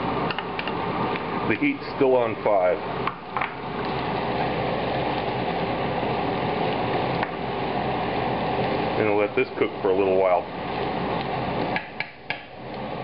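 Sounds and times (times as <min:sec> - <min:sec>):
onions frying in oil: 0:00.0 - 0:13.0.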